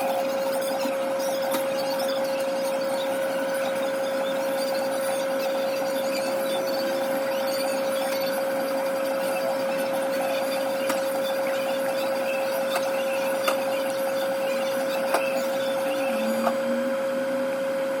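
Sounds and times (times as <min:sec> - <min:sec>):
noisy background: 0:00.0 - 0:18.0
steady machine hum: 0:00.0 - 0:18.0.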